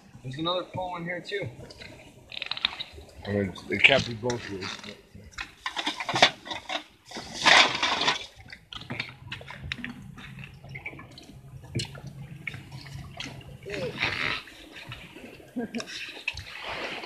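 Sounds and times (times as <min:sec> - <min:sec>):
low steady hum: 0:00.0 - 0:17.0
water splashing and sloshing: 0:00.0 - 0:17.0.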